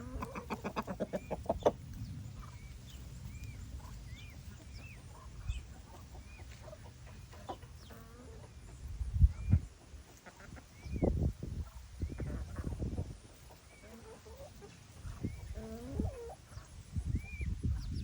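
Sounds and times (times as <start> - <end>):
fowl clucking: 0.0 - 2.7, 3.4 - 16.7
peachicks peeping softly: 0.0 - 18.0.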